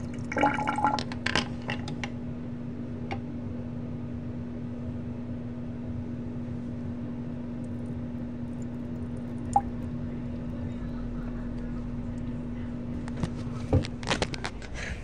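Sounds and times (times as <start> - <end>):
exhaust fan running: 0.0 - 15.0.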